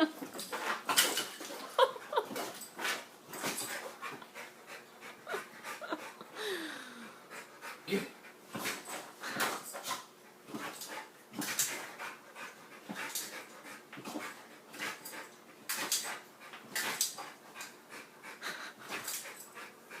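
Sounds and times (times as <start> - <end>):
dog panting: 0.1 - 20.0.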